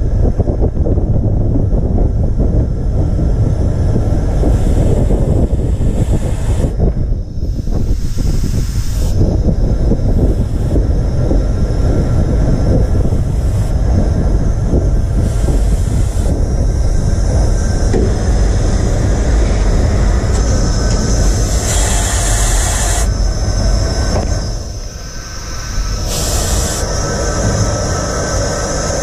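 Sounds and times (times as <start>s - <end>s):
steam locomotive rumbling on rails: 0.0s - 29.0s
steam hiss: 3.8s - 29.0s.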